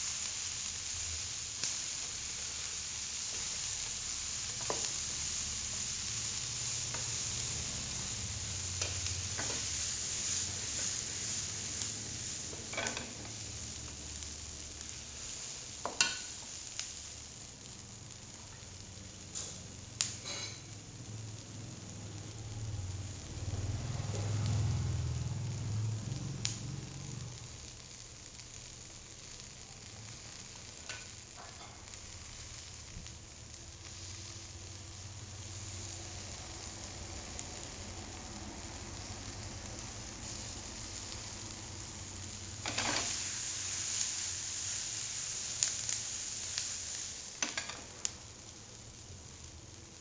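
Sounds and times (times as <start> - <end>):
sauce sizzling in a pot: 0.0 - 50.0.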